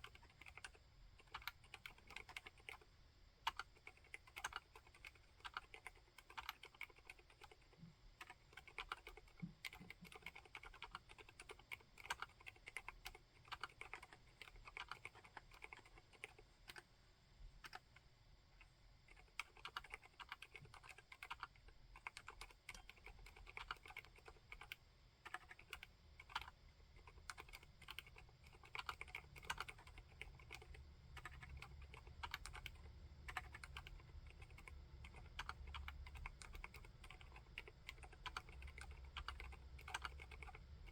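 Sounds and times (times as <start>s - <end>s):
soft mechanical keyboard typing: 0.0s - 16.9s, 17.5s - 40.9s.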